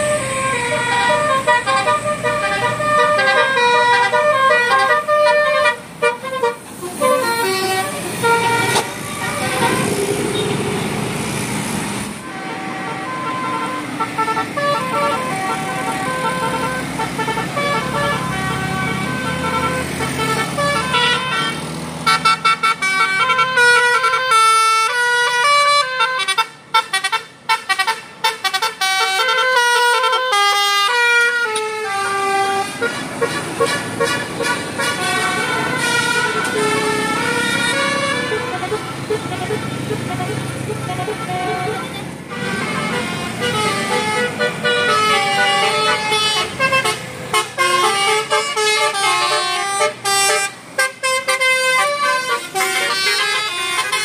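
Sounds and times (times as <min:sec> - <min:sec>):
musical bus horn tune: 0:00.0 - 0:10.6, 0:12.2 - 0:54.0
bus engine noise: 0:00.0 - 0:54.0.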